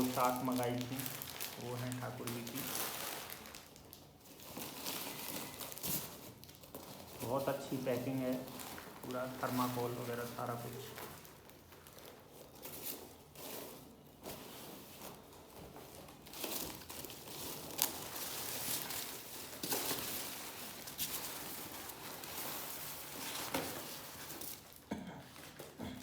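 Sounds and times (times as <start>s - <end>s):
packing material crinkling: 0.0s - 25.8s.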